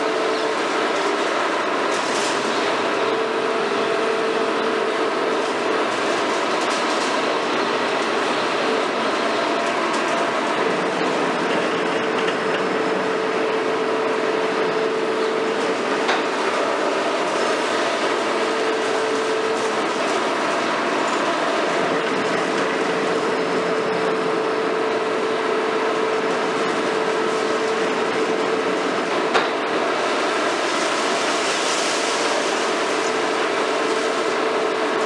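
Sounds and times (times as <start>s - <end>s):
constant machine whine: 0.0s - 35.0s
excavator mechanical drone: 0.0s - 35.0s.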